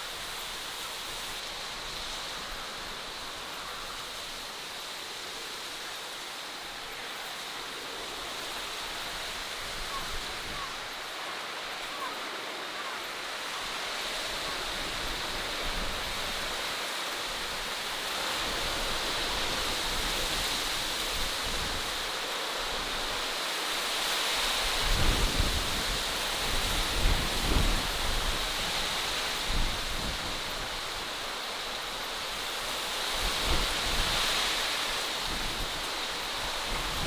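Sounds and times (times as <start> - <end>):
steady rushing hiss: 0.0 - 37.0.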